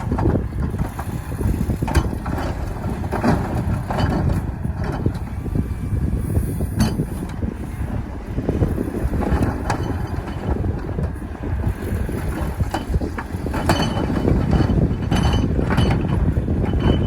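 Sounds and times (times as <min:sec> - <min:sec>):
diesel machinery rumbling: 0:00.0 - 0:17.0
wind buffeting microphone: 0:00.0 - 0:17.0.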